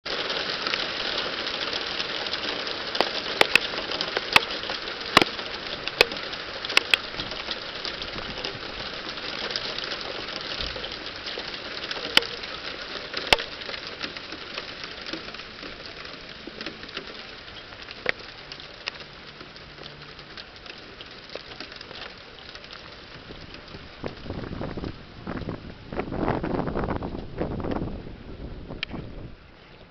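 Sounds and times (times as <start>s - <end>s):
hailstones cracking on hard surface: 0.1s - 27.8s
hail pattering: 0.1s - 29.9s.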